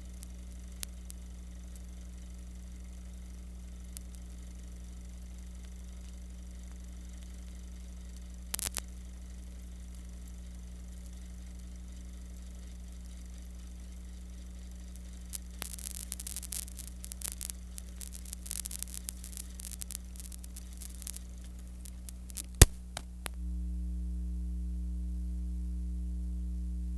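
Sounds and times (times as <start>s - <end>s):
electrical crackling and pops: 0.0s - 23.5s
electrical mains hum: 0.0s - 26.9s.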